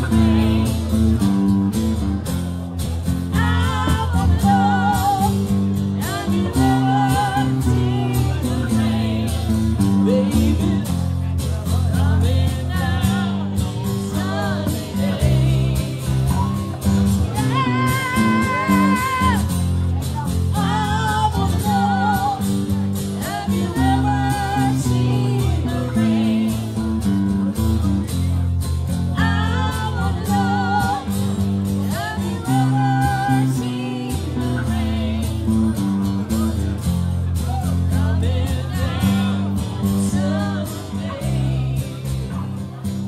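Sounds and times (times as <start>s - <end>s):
live rock band playing: 0.0s - 43.0s.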